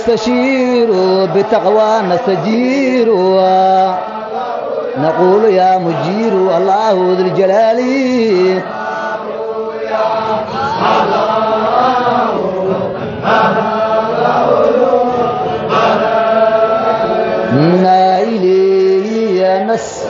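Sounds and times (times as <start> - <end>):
group of men chanting: 0.0 - 20.0
man singing a held line: 0.0 - 20.0.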